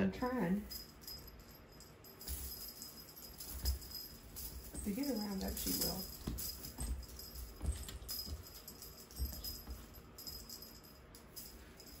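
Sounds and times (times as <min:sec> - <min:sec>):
toy jingling and rustling: 0:00.2 - 0:12.0.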